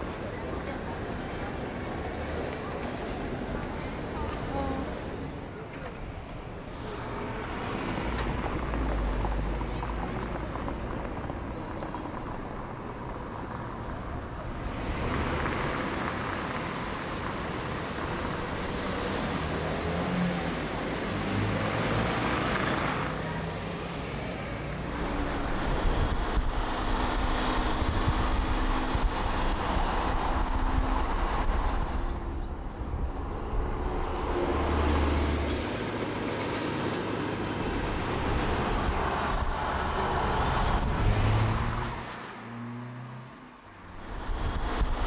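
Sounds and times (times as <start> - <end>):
passing traffic: 0.0 - 45.0
tyre and road noise: 0.0 - 45.0.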